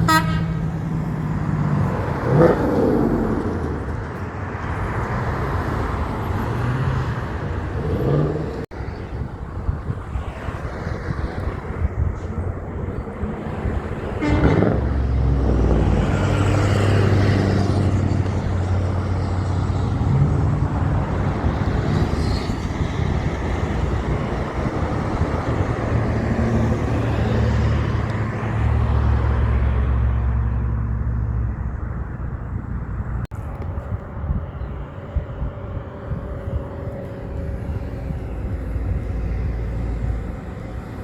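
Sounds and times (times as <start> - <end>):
heavy trucks driving past: 0.0 - 41.0
road noise: 0.0 - 41.0.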